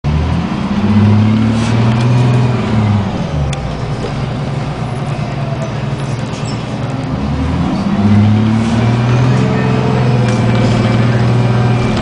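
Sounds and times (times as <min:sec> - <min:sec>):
diesel bus engine running: 0:00.0 - 0:12.0.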